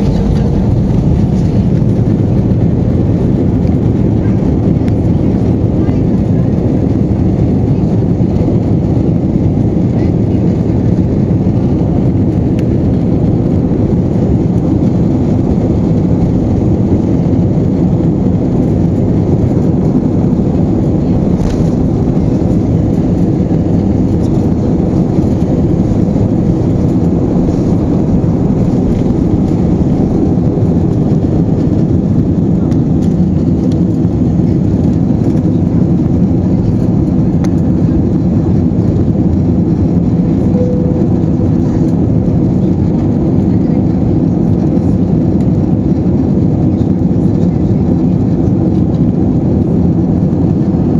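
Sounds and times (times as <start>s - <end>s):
rushing air: 0.0s - 43.2s
jet engines roaring: 0.0s - 50.9s.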